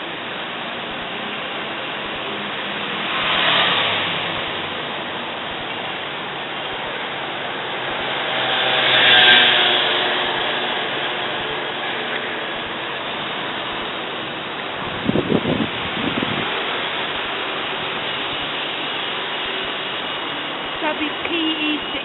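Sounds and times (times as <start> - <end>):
lorry engine running: 0.0 - 22.0
street traffic: 0.0 - 22.0
vehicles passing: 0.0 - 22.0.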